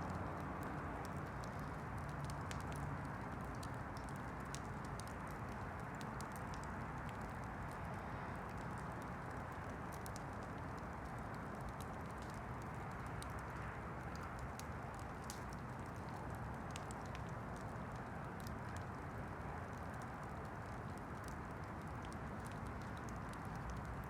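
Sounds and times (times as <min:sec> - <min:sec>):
campfire crackling and popping: 0:00.1 - 0:24.0.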